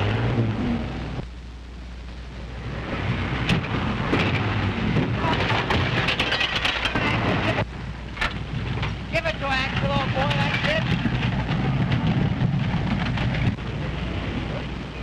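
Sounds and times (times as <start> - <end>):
car engine and rattling chassis: 2.4 - 15.0.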